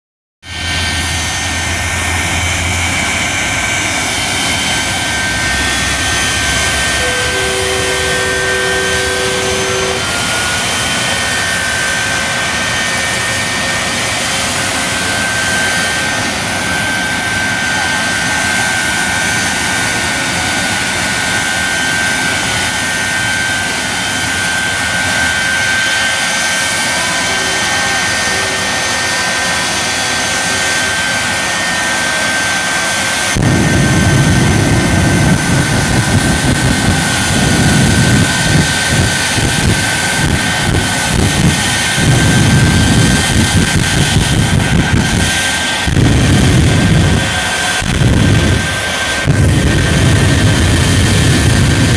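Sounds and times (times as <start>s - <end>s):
jet engines whining: 0.4s - 51.9s
low pulsing rumble of flames: 0.4s - 51.9s.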